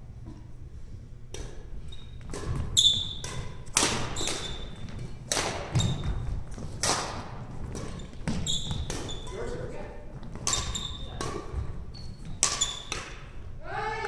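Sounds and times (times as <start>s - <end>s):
racket hitting shuttlecock: 1.3s - 9.4s, 10.3s - 13.4s.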